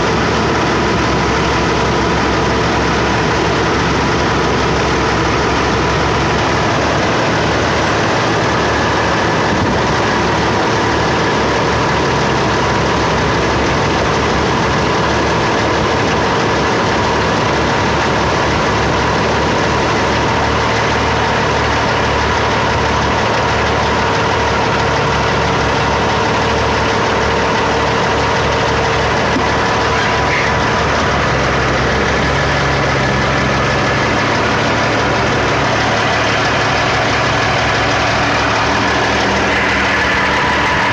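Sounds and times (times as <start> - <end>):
diesel engine idling: 0.0 - 40.9
steady whine: 0.0 - 40.9.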